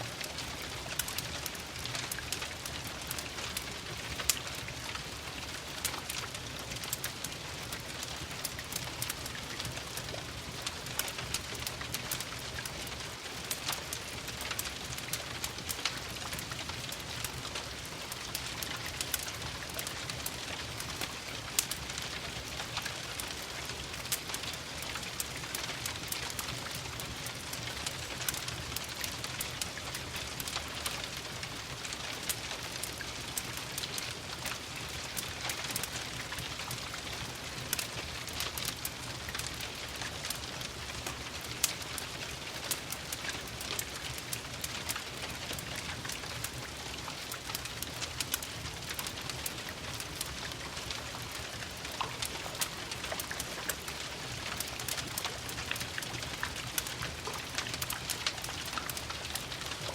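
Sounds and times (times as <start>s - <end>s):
steady rain: 0.0s - 59.9s
wood fire crackling and popping: 0.0s - 59.9s.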